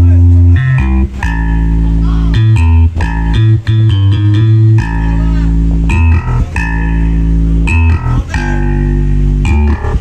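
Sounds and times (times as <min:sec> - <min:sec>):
loud bass-heavy music: 0:00.0 - 0:10.0.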